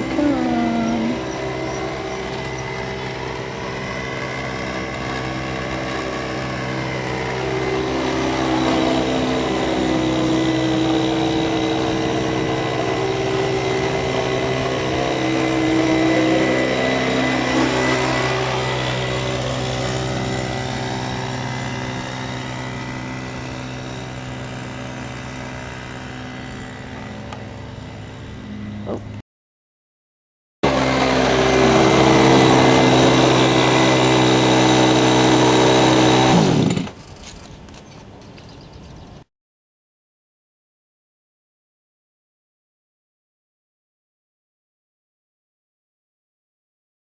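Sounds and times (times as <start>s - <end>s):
small motorcycle engine running: 0.0s - 29.2s, 30.6s - 39.0s.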